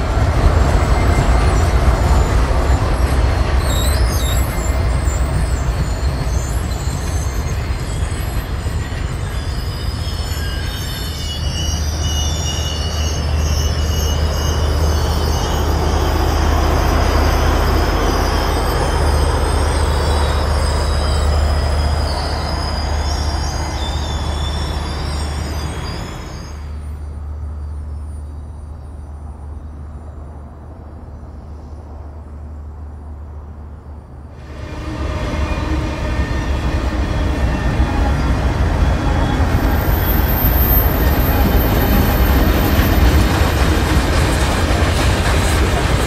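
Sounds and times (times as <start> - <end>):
wheels squealing on rails: 0.0 - 32.6, 33.9 - 46.0
heavy train rumble: 0.0 - 46.0.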